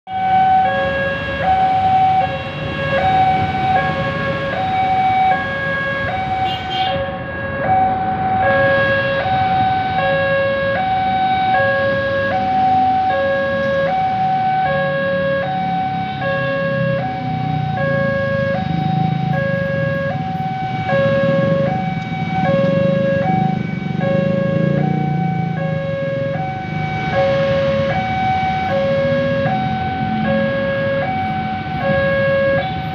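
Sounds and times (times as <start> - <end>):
level crossing two-tone alarm: 0.1 - 32.9
road traffic: 0.1 - 32.9.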